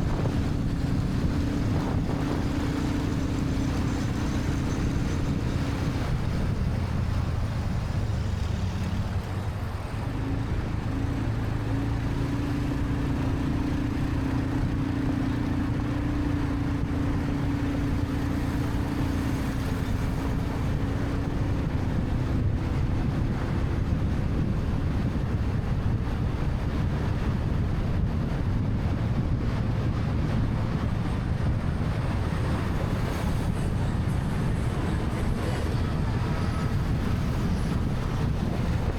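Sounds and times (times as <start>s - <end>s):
traffic: 0.0s - 38.9s
wind rushing over microphone: 0.0s - 38.9s.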